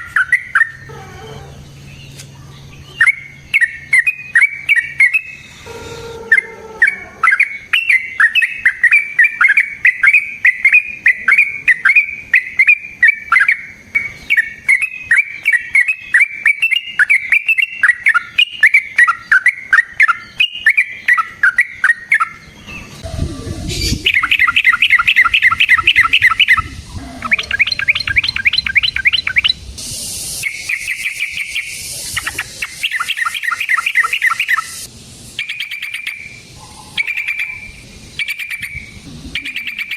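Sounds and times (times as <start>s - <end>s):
bird singing bubbly phrases: 0.0s - 0.9s, 1.5s - 39.9s
bird rattling trills: 7.2s - 39.9s.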